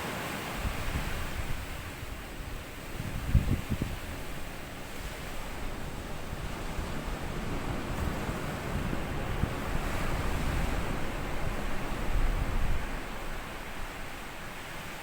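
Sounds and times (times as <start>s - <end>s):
waves washing onto sandy beach: 0.0s - 15.0s
wind gusts on microphone: 0.1s - 15.0s.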